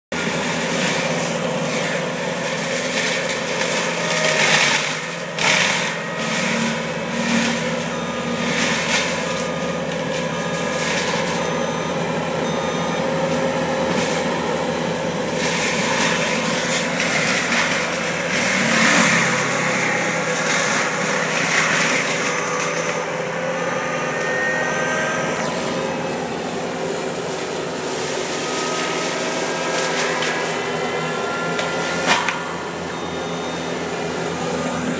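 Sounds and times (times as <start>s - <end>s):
diesel engine running: 0.1s - 34.9s
mulcher grinding brush: 0.2s - 34.9s.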